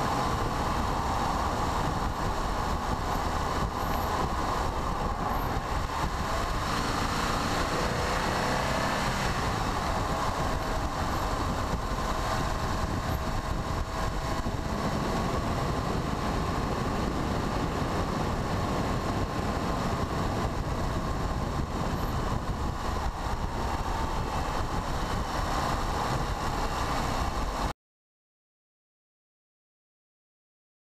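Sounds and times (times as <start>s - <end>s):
car engine and tyre noise: 0.0s - 27.7s.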